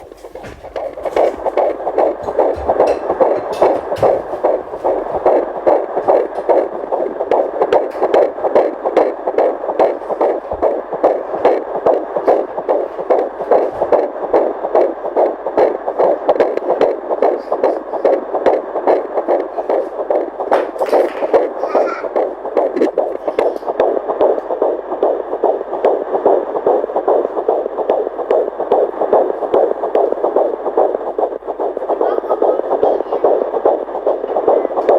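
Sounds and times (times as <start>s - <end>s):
heart beating fast: 0.0s - 34.9s.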